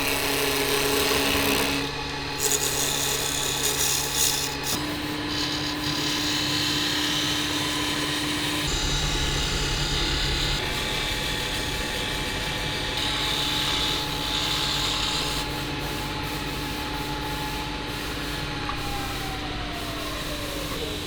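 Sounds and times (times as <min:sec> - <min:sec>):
wood being sanded: 0:00.0 - 0:17.5
woodworking machine motor hum: 0:00.0 - 0:21.0.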